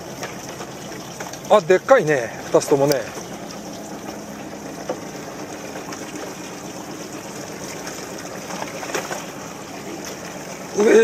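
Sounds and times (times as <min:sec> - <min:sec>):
water sloshing against boat hull: 0:00.0 - 0:11.0.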